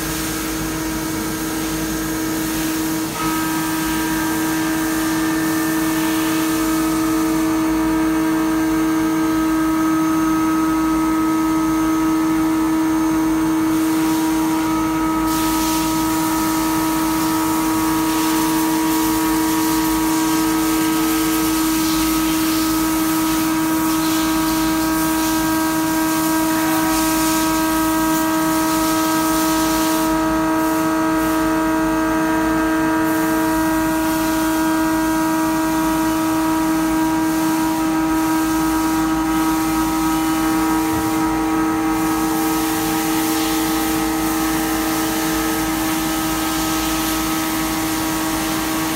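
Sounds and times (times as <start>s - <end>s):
hiss of cutting and coolant spray: 0.0s - 48.9s.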